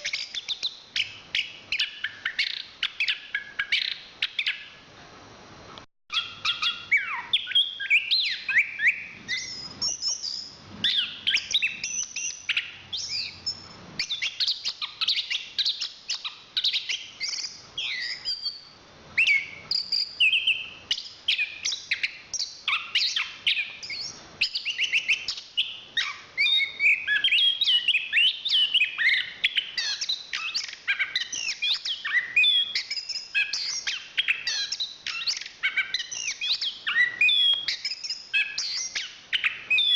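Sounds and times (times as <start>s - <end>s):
thrush singing high chirps: 0.0s - 4.9s, 6.1s - 39.9s.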